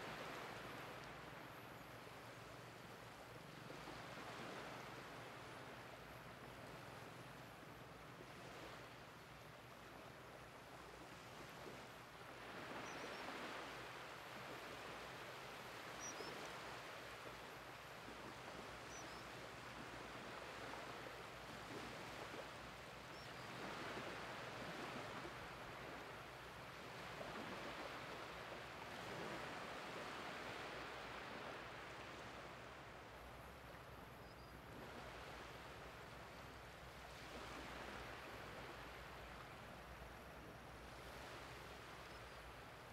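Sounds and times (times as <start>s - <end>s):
small waves hissing on beach: 0.0s - 42.9s.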